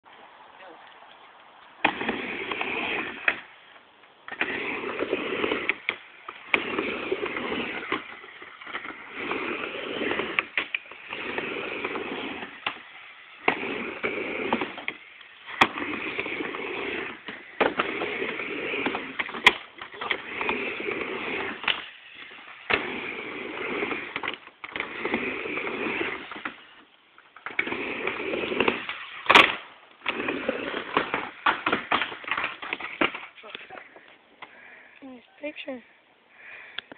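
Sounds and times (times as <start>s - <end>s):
skateboard wheels rolling on ramp: 0.1s - 34.1s.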